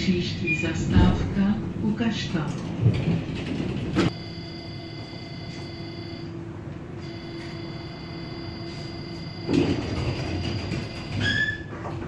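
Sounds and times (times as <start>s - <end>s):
electrical equipment humming: 0.0s - 12.0s.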